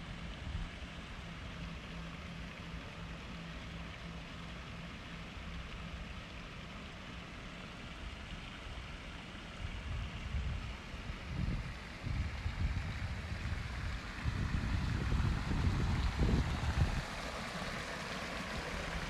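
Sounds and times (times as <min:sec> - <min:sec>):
steady low hum: 0:00.0 - 0:19.0
wet traffic rumble: 0:00.0 - 0:19.0.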